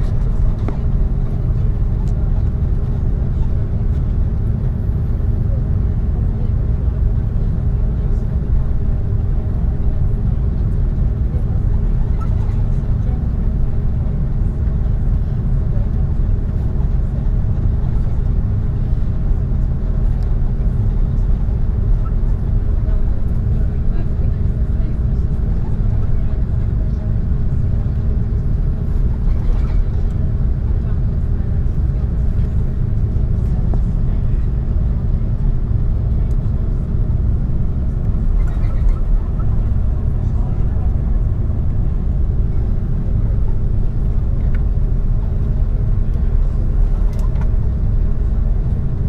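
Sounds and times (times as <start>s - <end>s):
airliner rolling on ground: 0.0s - 49.0s
constant cabin hum: 0.0s - 49.0s
jet engines at low power: 0.0s - 49.0s.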